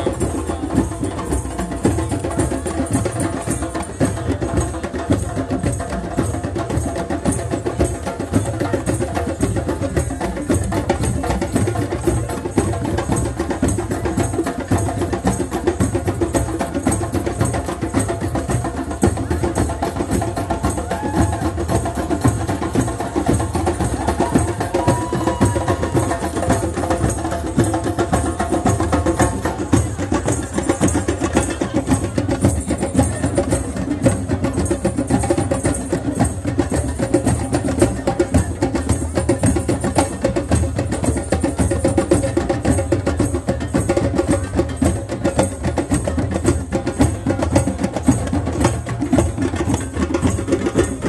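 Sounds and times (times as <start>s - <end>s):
hand drums beating: 0.0s - 51.0s.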